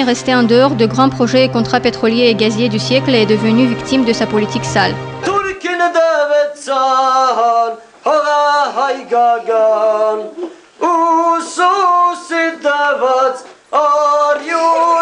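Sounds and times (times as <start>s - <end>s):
group of voices singing: 2.5s - 15.0s.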